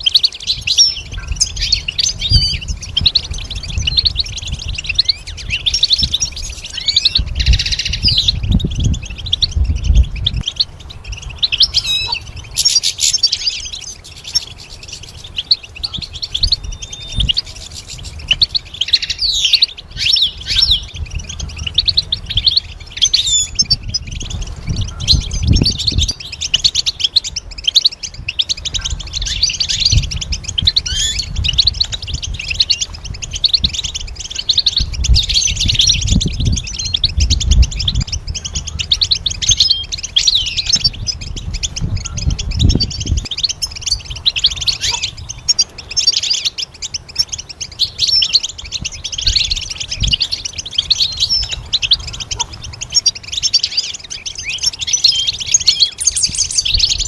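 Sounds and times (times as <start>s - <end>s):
goldfinch twittering song: 0.0s - 57.0s.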